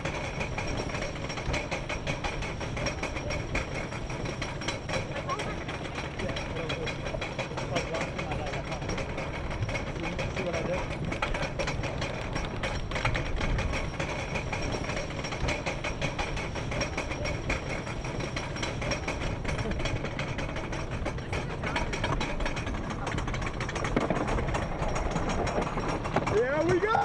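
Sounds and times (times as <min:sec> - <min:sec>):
anti-rollback ratchet clicking: 0:00.0 - 0:27.0
roller coaster lift chain hauling: 0:00.0 - 0:27.0.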